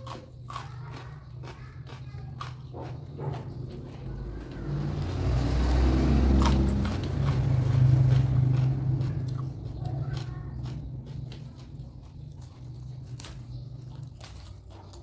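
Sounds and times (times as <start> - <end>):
chewing raw vegetables: 0.0 - 15.0
vehicle engine passing: 0.7 - 15.0.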